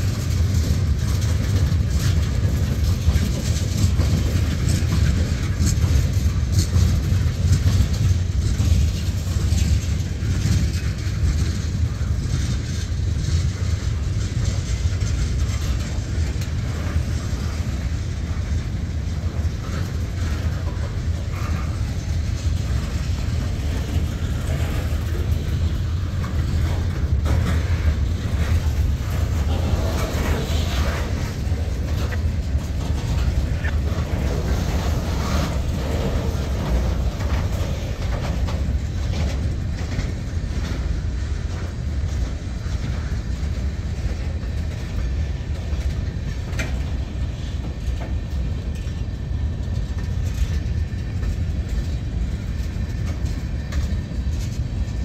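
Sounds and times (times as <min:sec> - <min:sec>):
train cars clicking and clanking: 0:00.0 - 0:55.0
train wheels rumbling on track: 0:00.0 - 0:55.0.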